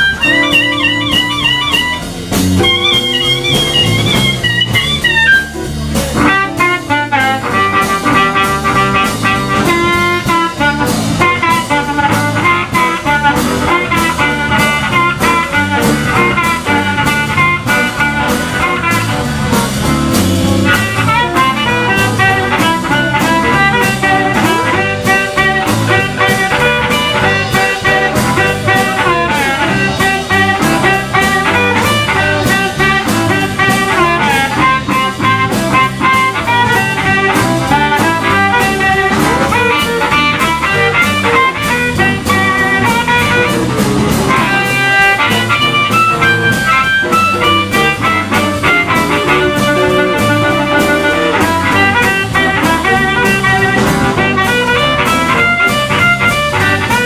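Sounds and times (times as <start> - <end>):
blues band playing: 0.0 - 57.0
harmonica: 0.0 - 57.0.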